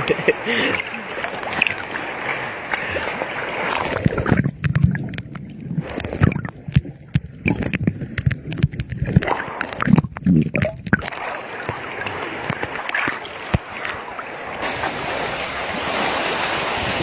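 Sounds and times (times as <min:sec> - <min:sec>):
sea water splashing: 0:00.0 - 0:17.0
water sloshing and lapping: 0:00.0 - 0:17.0.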